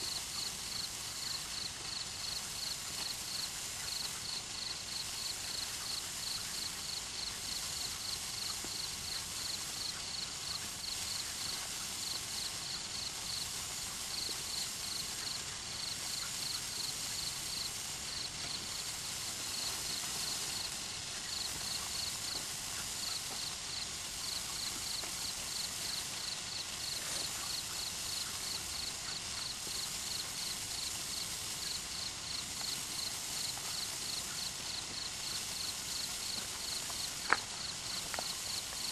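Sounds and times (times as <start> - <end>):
crickets chirping: 0.0 - 38.9
sparkler fizzing and crackling: 0.0 - 38.9.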